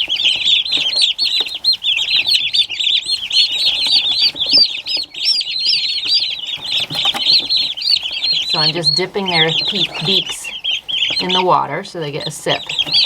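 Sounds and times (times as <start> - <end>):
turkey poults peeping: 0.0 - 13.0.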